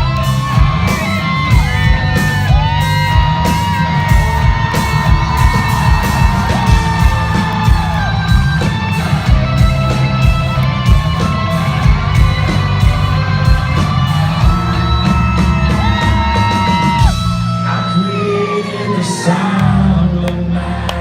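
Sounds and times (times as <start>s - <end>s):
bass guitar: 0.0s - 21.0s
drums: 0.0s - 21.0s
lead electric guitar: 0.0s - 21.0s.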